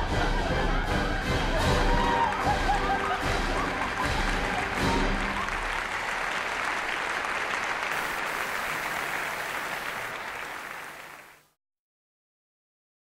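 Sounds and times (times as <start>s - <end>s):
audience applauding: 1.1s - 11.5s.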